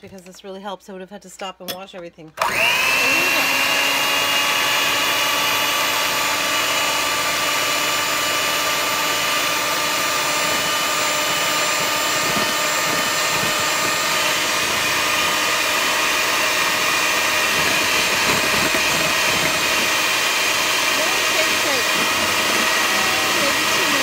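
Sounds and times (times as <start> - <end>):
electric hand mixer whining: 2.4 - 24.0.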